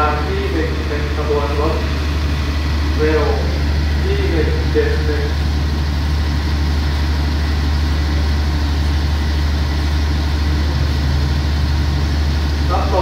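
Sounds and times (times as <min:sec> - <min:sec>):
diesel train idling hum: 0:00.0 - 0:13.0.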